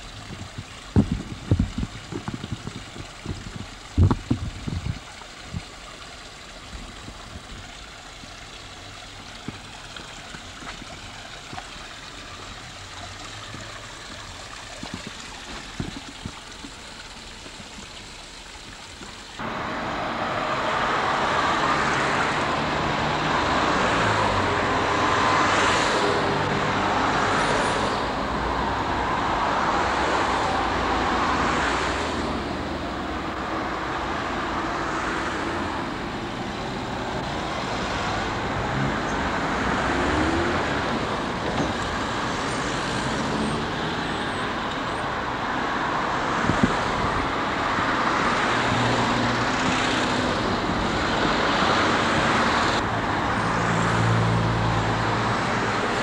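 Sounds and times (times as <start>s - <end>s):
cars passing on a street: 0.0s - 56.0s.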